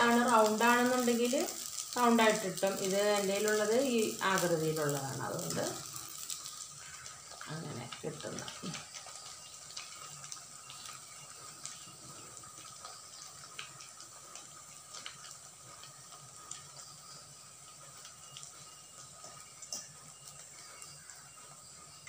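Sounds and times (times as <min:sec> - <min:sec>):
frying in hot oil: 0:00.0 - 0:22.0.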